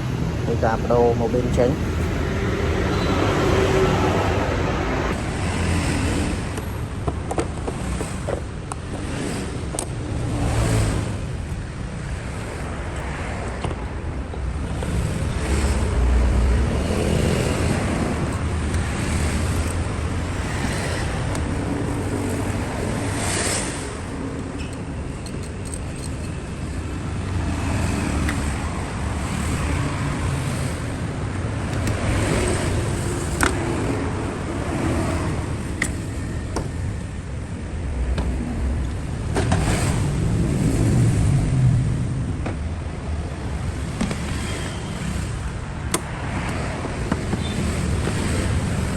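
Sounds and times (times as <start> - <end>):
car running: 0.0 - 48.9.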